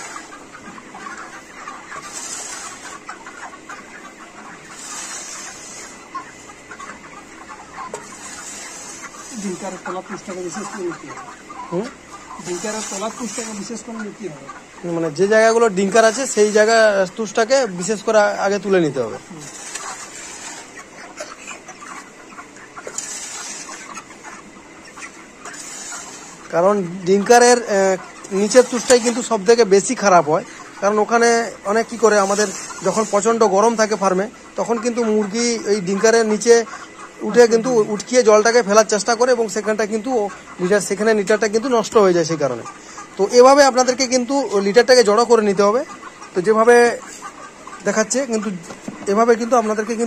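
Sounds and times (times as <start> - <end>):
chickens clucking and peeping: 0.0 - 50.0.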